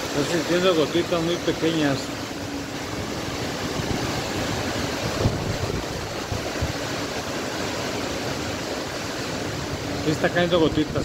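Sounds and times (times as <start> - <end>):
wind rushing through trees: 0.0 - 11.0
wind buffeting microphone: 2.2 - 11.0.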